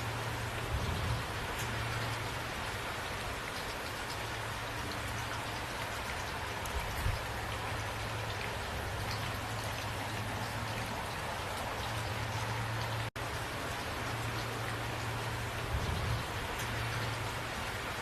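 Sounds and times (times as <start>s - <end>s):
raindrops ticking: 0.0s - 18.0s
steady rain falling: 0.0s - 18.0s.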